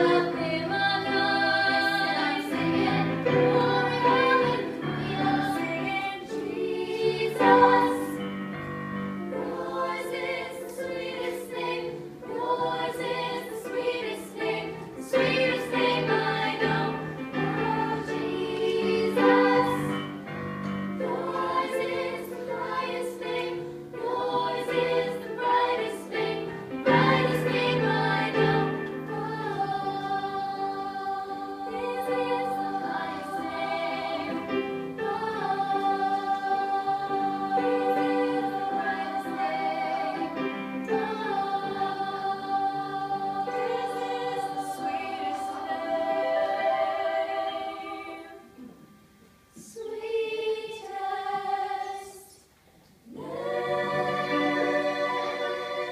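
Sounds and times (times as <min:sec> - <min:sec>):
girls' choir singing in harmony: 0:00.0 - 0:55.9.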